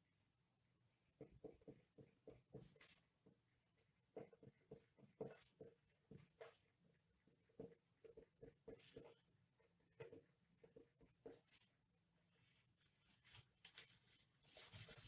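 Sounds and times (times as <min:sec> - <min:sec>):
pen scratching on paper: 0:00.8 - 0:15.0.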